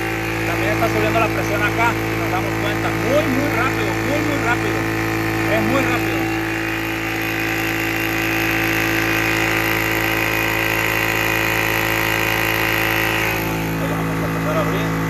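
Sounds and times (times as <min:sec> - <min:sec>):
air compressor running: 0:00.0 - 0:15.0
high-pitched compressor whine: 0:00.0 - 0:15.0.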